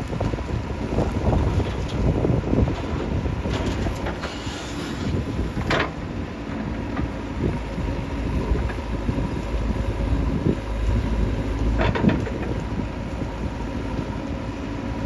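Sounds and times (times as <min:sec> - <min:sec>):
diesel engine running heavily: 0:00.0 - 0:15.0.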